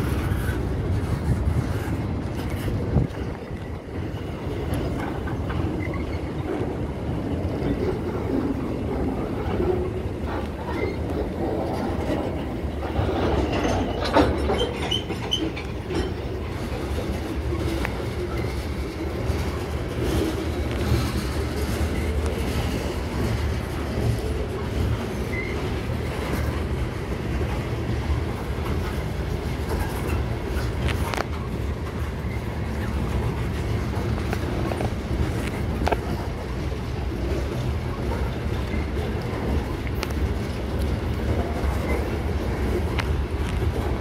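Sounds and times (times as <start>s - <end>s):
steel wheels rumbling on rail: 0.0s - 44.0s.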